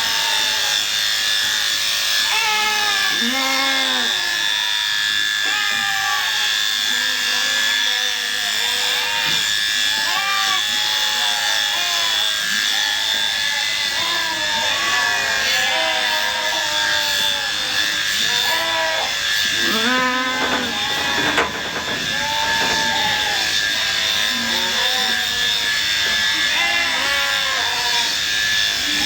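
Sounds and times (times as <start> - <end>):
electric shears whining: 0.0 - 29.0
sheep bleating: 2.3 - 4.9, 6.0 - 28.8.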